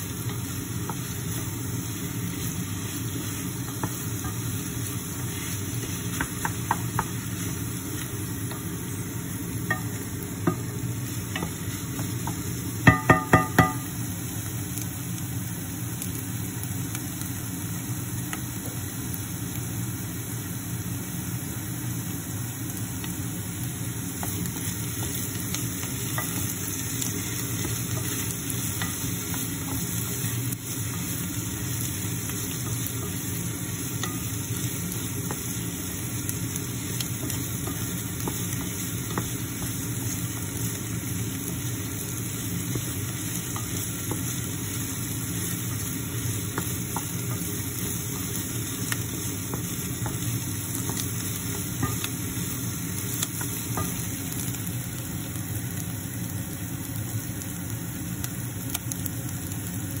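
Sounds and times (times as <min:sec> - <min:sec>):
onions sizzling in a pan: 0:00.0 - 1:00.0.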